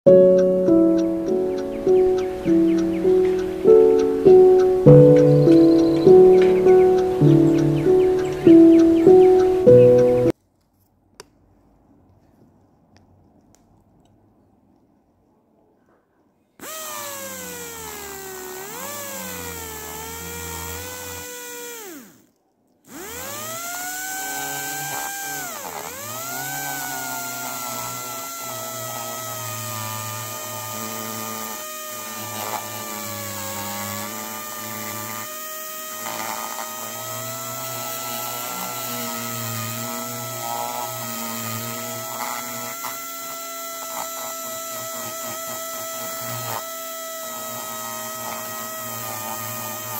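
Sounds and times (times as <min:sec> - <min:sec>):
dental drill whining: 0:00.1 - 0:10.3, 0:16.6 - 0:22.3, 0:22.9 - 0:49.9.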